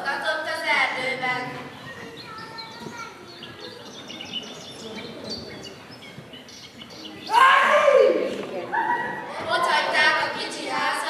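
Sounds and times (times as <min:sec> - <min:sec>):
audience murmur and movement: 0:00.0 - 0:11.0.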